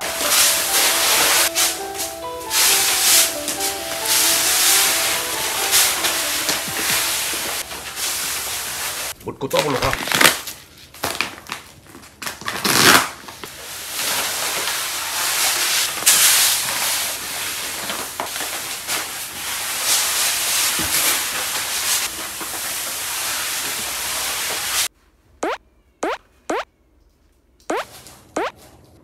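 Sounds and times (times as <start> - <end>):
cat litter pouring: 0.0 - 11.6, 12.4 - 24.9
bag crinkling: 0.0 - 24.4.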